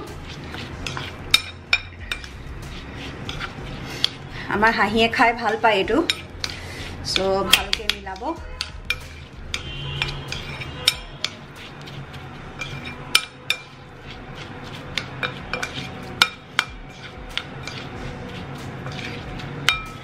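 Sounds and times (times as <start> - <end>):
metal spoon clinking on glass bowl: 0.8 - 2.4, 5.4 - 20.0.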